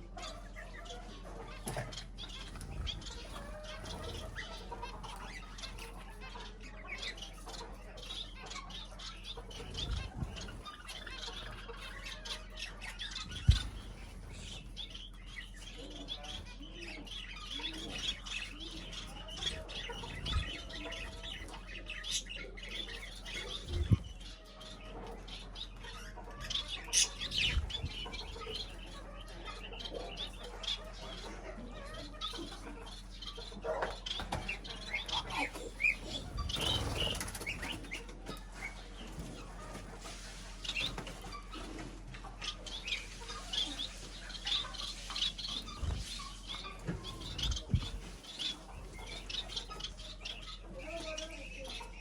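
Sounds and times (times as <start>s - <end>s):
cage birds chirping and squawking: 0.0s - 52.0s
wings fluttering: 0.2s - 6.5s, 8.5s - 29.4s, 33.7s - 51.9s.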